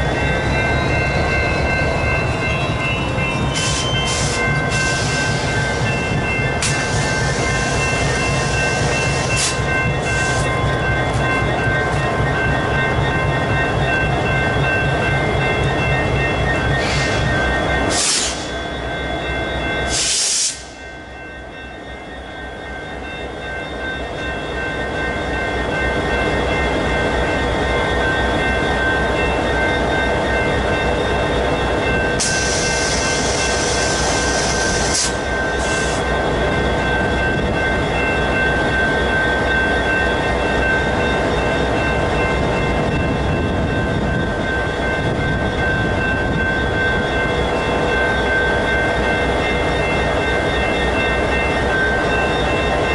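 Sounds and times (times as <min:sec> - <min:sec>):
freight train rumbling: 0:00.0 - 0:52.9
high ringing tone: 0:00.0 - 0:52.9.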